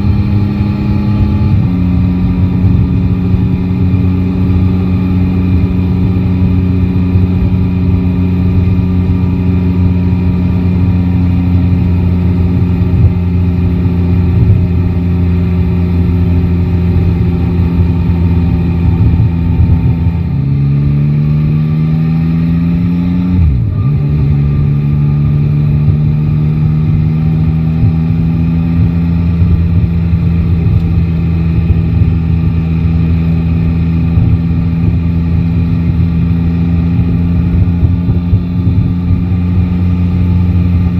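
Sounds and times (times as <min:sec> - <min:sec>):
motorcycle engine cruising: 0:00.0 - 0:40.9
wind rumble on microphone: 0:00.0 - 0:40.9.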